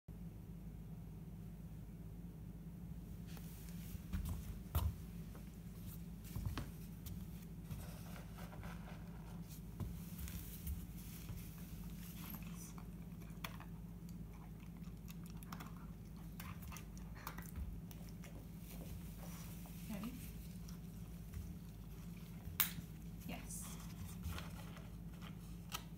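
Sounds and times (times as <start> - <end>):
low steady hum: 0.1 - 25.9.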